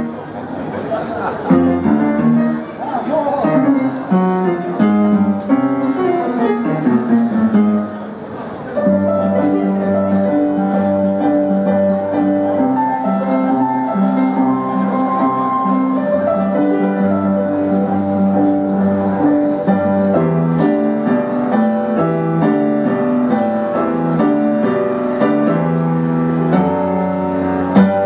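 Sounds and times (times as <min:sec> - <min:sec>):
keyboard chords over bass: 0:01.5 - 0:08.2, 0:08.8 - 0:28.0.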